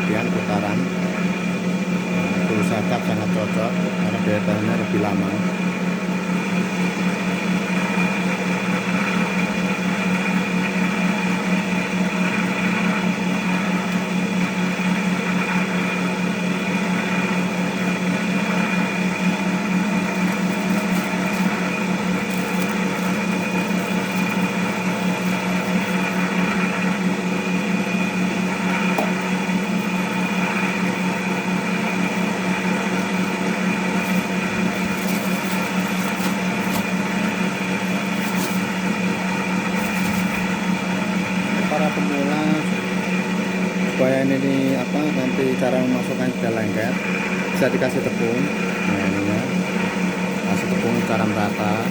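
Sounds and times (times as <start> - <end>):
cotton candy machine motor humming: 0.0 - 51.9.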